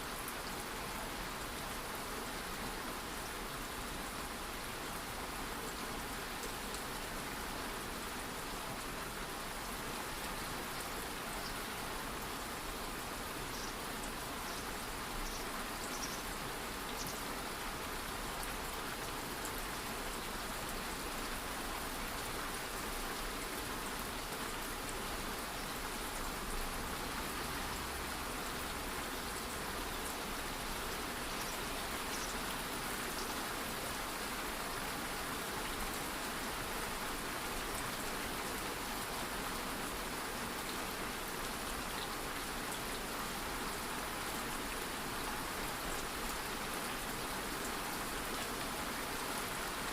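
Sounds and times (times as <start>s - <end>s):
light rain falling: 0.0s - 49.9s.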